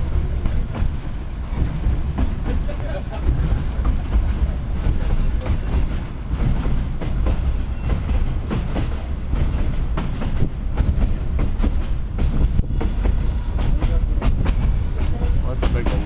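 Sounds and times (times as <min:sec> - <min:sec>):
train car rumble: 0:00.0 - 0:16.0.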